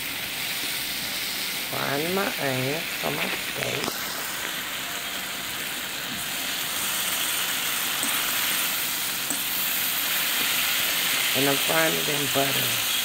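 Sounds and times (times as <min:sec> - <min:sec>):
onions sizzling in butter: 0:00.0 - 0:13.0.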